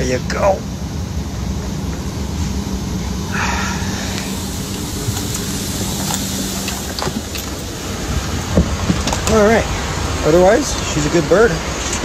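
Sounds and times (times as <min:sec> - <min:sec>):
air conditioning airflow: 0:00.0 - 0:12.0
low steady hum: 0:00.0 - 0:12.0.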